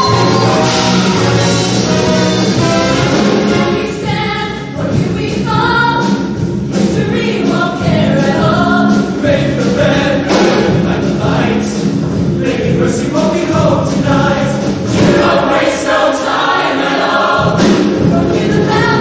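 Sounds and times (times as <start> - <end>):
choir singing in harmony: 0.0 - 5.5, 6.9 - 19.0
musical backing: 0.0 - 19.0.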